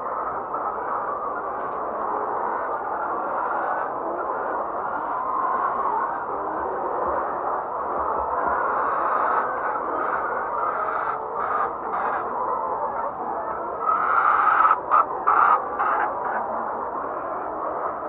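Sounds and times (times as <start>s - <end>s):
hens clucking and squawking: 0.0s - 18.0s.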